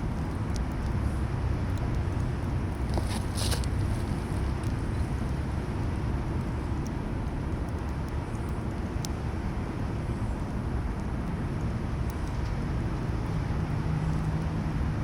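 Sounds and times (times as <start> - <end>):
campfire crackling and popping: 0.0 - 15.0
fire low rumble: 0.0 - 15.0.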